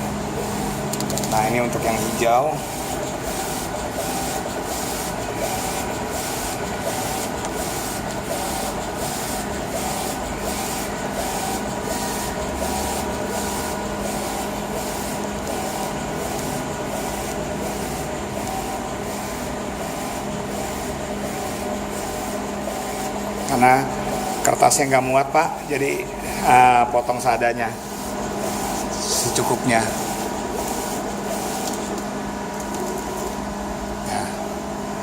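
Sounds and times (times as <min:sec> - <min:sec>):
printer whirring with pulse: 0:00.0 - 0:35.0.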